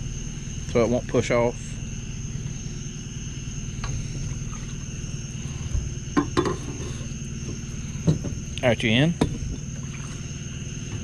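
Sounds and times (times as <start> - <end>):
boat motor idling: 0.0 - 11.0
night insects shrilling: 0.0 - 11.0.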